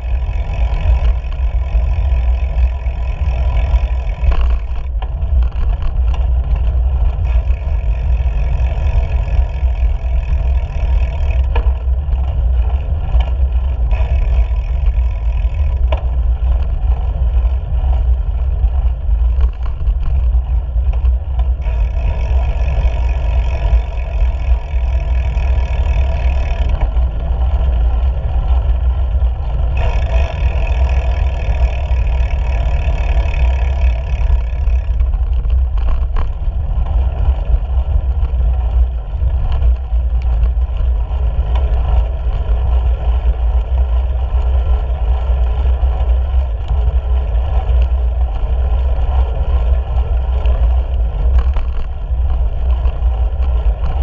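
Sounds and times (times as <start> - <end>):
road and tyre noise: 0.0 - 54.0
wind buffeting microphone: 0.0 - 54.0.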